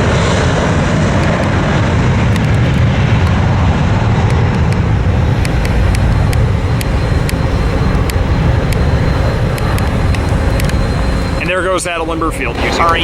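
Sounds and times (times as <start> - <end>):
jet engine roar at takeoff: 0.0 - 13.0.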